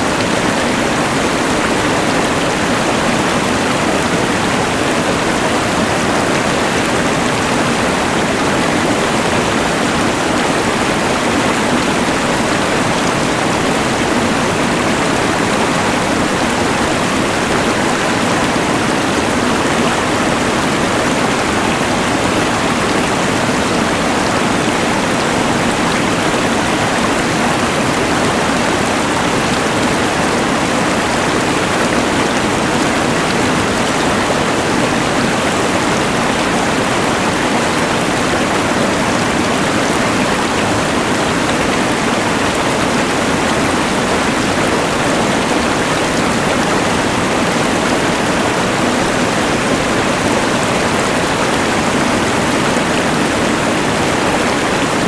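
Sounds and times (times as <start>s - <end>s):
rushing river: 0.0s - 55.0s.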